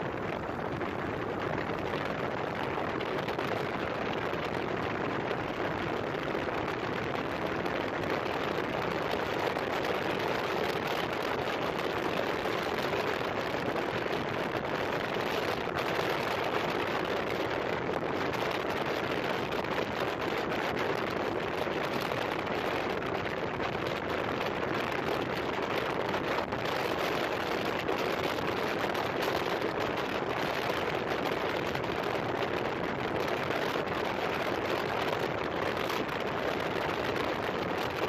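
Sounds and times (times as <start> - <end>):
road noise: 0.0 - 38.0
wind rushing over microphone: 0.0 - 38.0.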